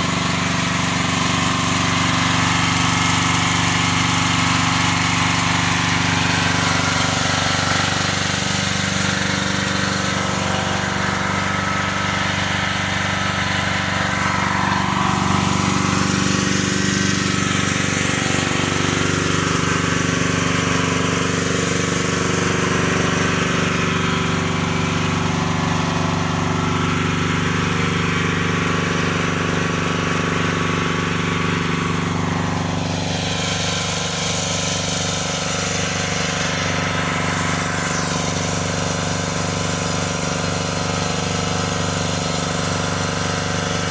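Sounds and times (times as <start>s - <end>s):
generator engine running: 0.0s - 43.9s.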